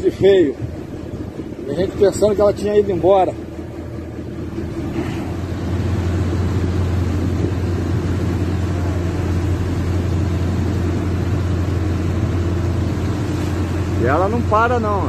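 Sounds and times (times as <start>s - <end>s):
boat engine hum: 0.0s - 15.0s
rushing water of wake: 0.0s - 15.0s.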